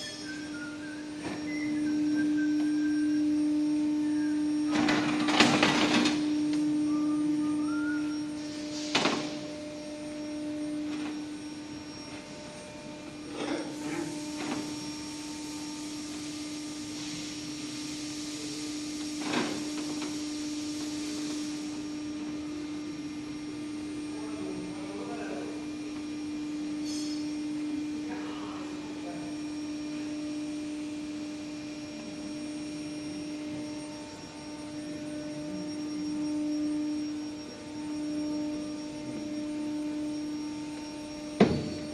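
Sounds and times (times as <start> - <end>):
machine hum: 0.0 - 41.9.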